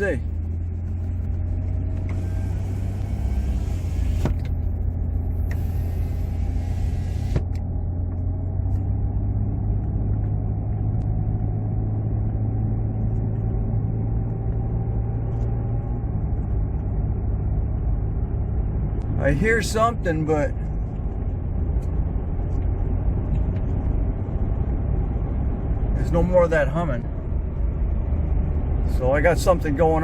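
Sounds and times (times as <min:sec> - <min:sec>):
road noise inside car: 0:00.0 - 0:30.0.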